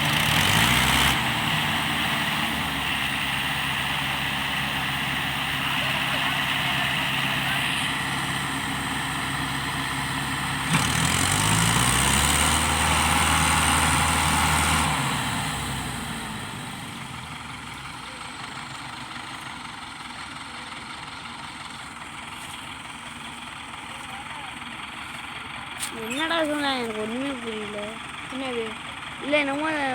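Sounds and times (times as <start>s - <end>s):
tractor diesel engine revving: 0.0s - 29.9s.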